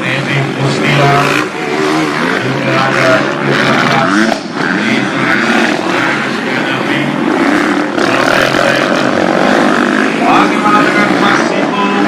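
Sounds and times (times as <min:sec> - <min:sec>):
motocross engines at high revs: 0:00.0 - 0:12.0.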